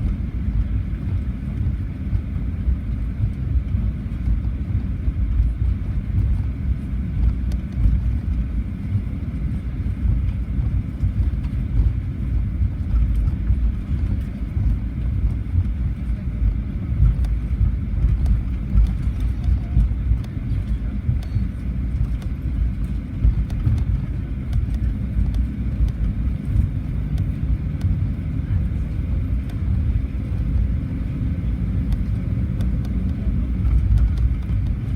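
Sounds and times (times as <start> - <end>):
jet engines idling: 0.0 - 34.9
low rumble inside aircraft cabin: 0.0 - 34.9.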